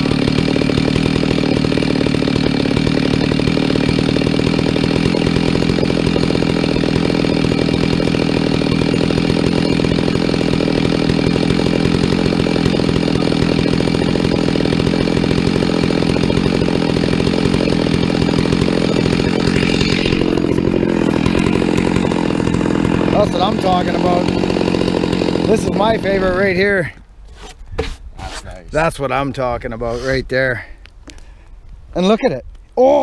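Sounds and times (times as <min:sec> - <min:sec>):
chainsaw cutting log: 0:00.0 - 0:28.8.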